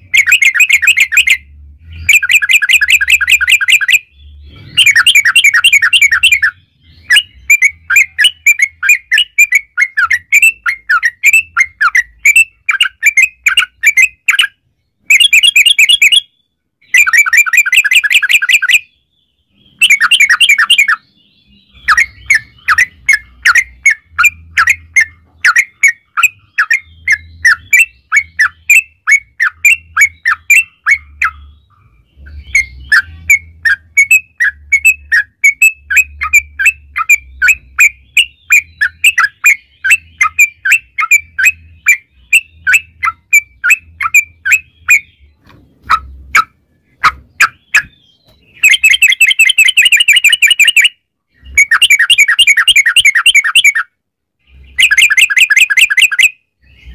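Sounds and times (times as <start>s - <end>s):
bulbul singing rapid notes: 0.0s - 18.9s, 19.5s - 21.0s, 21.7s - 56.9s.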